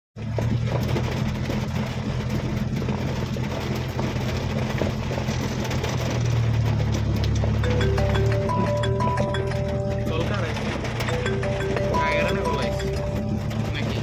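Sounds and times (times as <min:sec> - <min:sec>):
car engine droning: 0:00.2 - 0:14.0.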